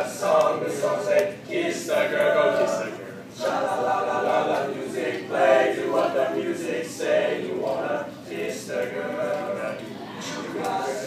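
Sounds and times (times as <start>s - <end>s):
choir singing a cappella: 0.0s - 11.0s.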